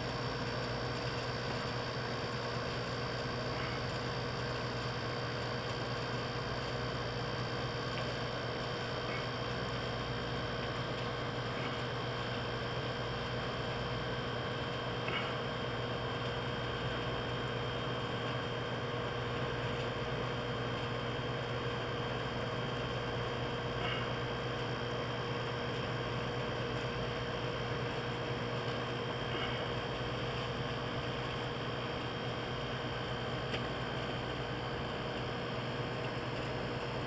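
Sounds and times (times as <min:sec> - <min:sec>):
constant high whine: 0:00.0 - 0:37.0
steady hum and hiss: 0:00.0 - 0:37.0.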